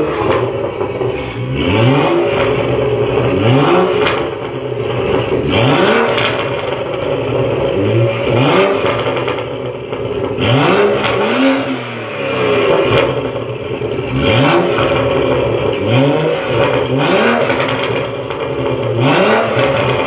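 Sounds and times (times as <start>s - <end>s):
car engine revving: 0.0s - 20.0s
sharp exhaust cracks: 0.0s - 20.0s.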